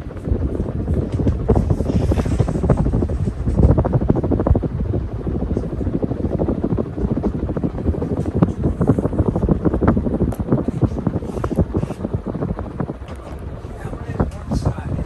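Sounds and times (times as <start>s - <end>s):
fan air buffeting microphone: 0.0s - 15.0s.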